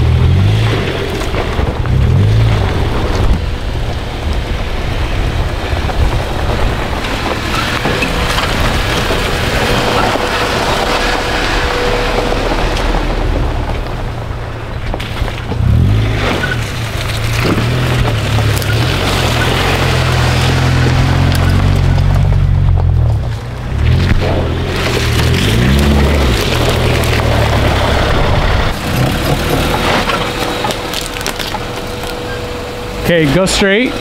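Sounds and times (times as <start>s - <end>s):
car driving on a dirt road: 0.0s - 34.0s.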